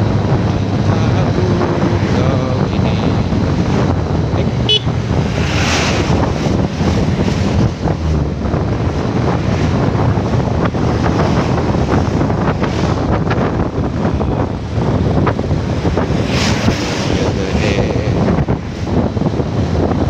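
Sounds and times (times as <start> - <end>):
motorcycle engine: 0.0 - 19.9
road noise: 0.0 - 20.0
wind rushing over microphone: 0.0 - 20.0.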